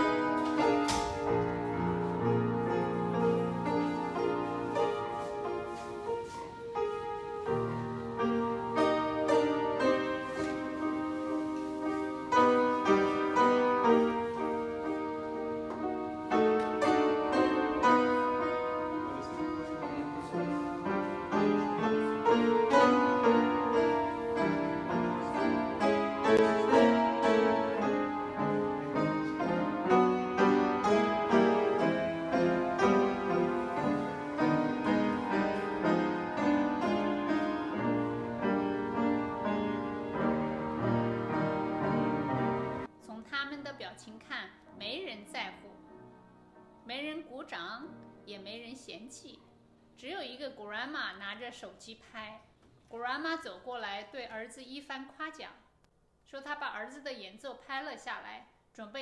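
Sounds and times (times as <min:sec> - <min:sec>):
upright piano playing: 0:00.0 - 0:50.0.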